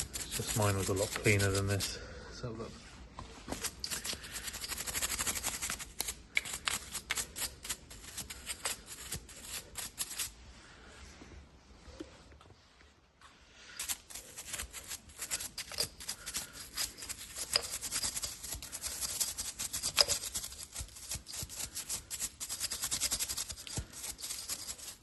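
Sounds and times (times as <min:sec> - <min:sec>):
dry scratching and rustling: 0:00.0 - 0:02.0, 0:02.8 - 0:10.3, 0:13.8 - 0:25.0.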